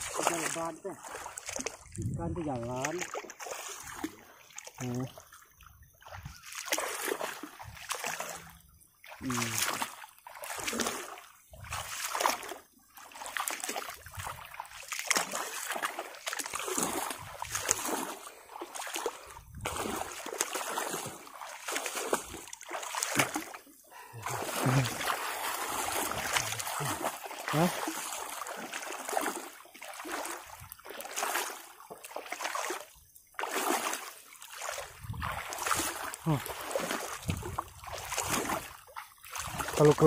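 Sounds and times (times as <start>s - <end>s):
wading through water: 0.0s - 40.0s
water splashing: 0.0s - 40.0s.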